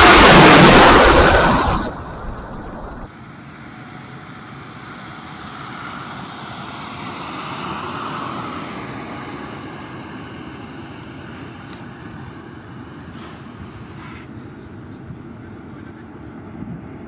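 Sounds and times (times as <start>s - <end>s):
distant jet engine rushing: 0.0s - 3.1s, 3.7s - 17.0s.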